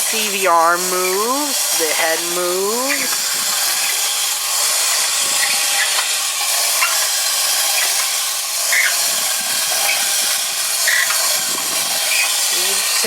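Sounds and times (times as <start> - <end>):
clockwork toy whirring: 0.0 - 13.0.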